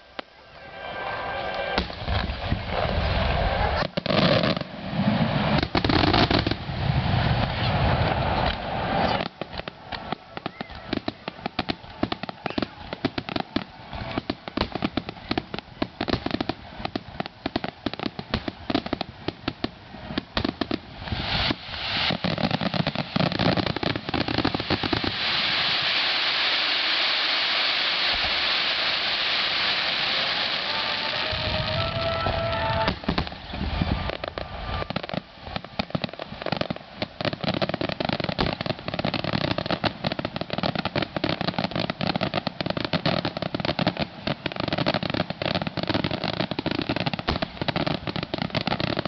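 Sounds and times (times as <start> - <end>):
fireworks crackling hiss: 0.0 - 49.0
fireworks cracking and popping: 1.0 - 49.0.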